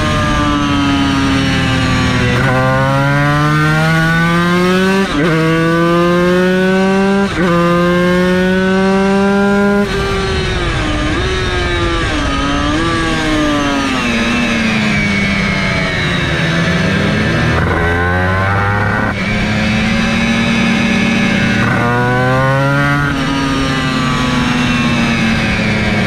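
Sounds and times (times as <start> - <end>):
race motorcycle engine revving: 0.0 - 26.0.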